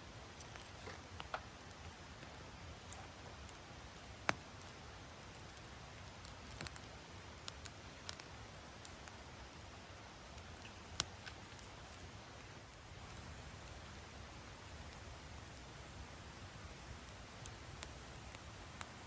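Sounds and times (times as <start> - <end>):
low steady hiss: 0.0 - 19.0
wood fire crackling: 0.0 - 19.0
sharp fire pops: 0.4 - 19.0.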